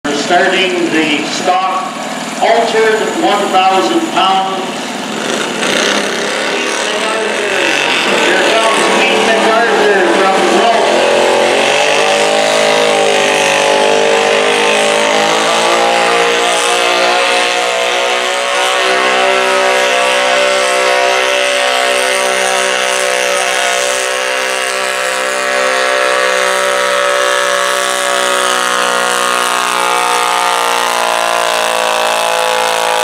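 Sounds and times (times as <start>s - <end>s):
tractor engine under full load: 0.0s - 33.0s.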